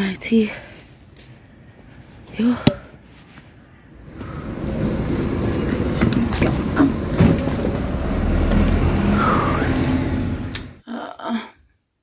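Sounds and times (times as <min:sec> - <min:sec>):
bus engine rumbling: 0:00.0 - 0:10.8.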